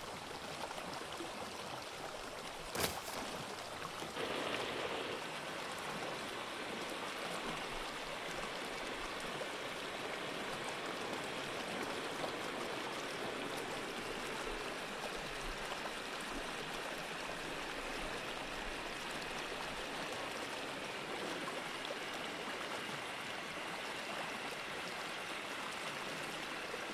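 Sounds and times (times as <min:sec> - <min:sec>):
rushing water: 0:00.0 - 0:26.9.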